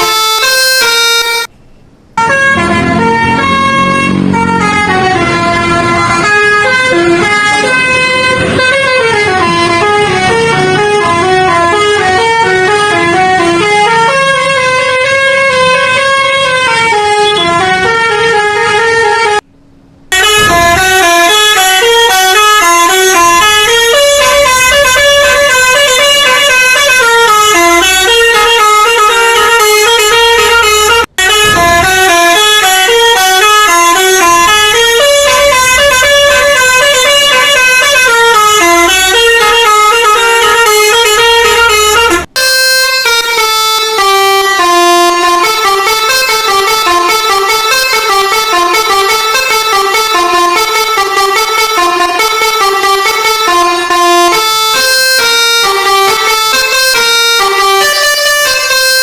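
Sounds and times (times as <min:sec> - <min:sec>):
musical air horn tune: 0:00.0 - 0:01.5, 0:02.2 - 0:19.4, 0:20.1 - 0:59.0.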